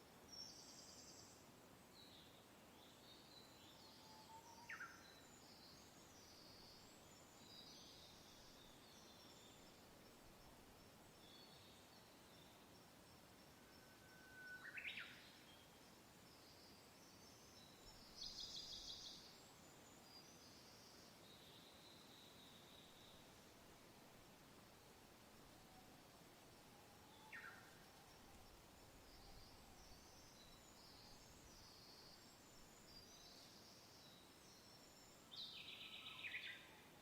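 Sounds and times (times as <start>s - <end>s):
soft wind hiss: 0.0s - 37.0s.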